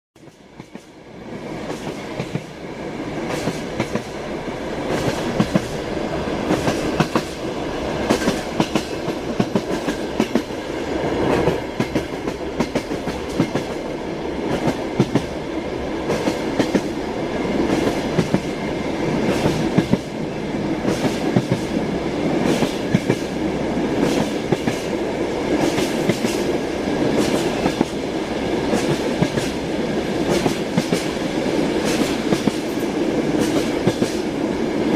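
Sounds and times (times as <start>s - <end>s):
train rumble: 0.2s - 34.9s.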